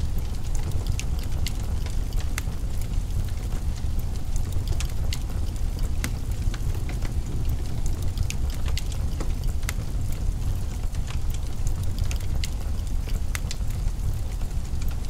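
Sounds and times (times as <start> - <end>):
steady low rumble: 0.0 - 15.0
wood fire crackling: 0.0 - 15.0.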